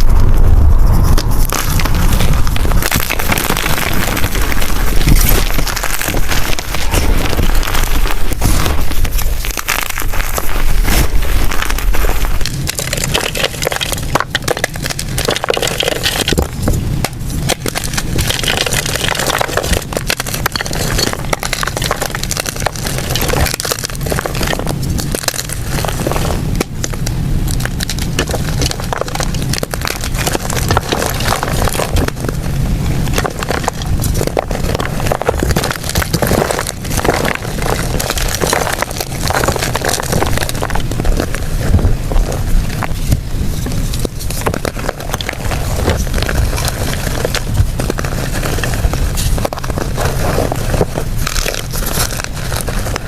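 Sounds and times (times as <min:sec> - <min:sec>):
chalk blocks crumbling and crunching: 0:00.0 - 0:53.0.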